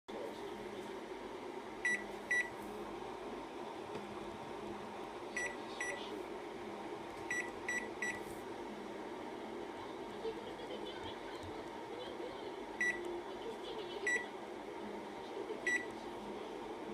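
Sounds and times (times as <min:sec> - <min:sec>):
steady low hum: 0:00.1 - 0:16.9.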